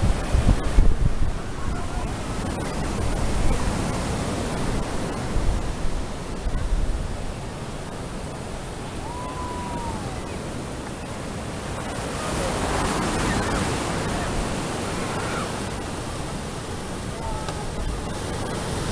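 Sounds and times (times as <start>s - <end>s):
ocean surf hissing: 0.0s - 18.9s
wind buffeting microphone: 0.0s - 18.9s.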